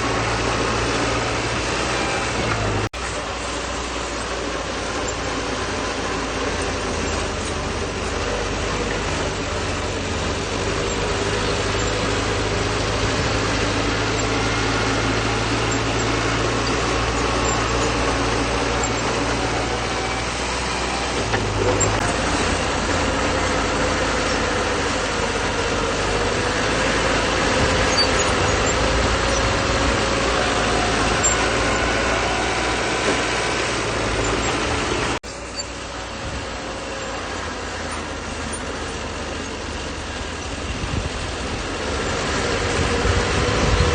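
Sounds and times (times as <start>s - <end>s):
bulldozer diesel engine: 0.0s - 43.9s.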